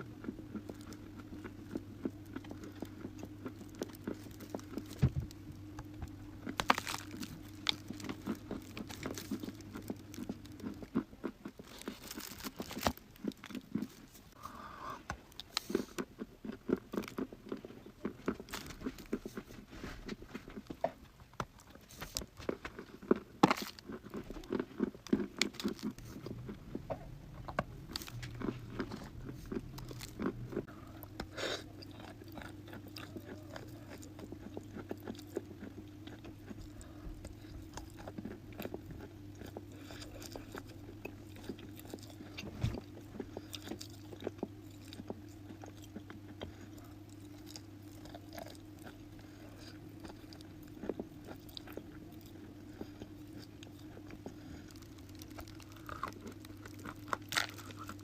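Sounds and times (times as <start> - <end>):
steady low hum: 0.0 - 58.0
chalk being chewed crunching: 0.1 - 5.0, 5.6 - 14.4, 15.4 - 20.8, 21.5 - 26.6, 27.6 - 58.0.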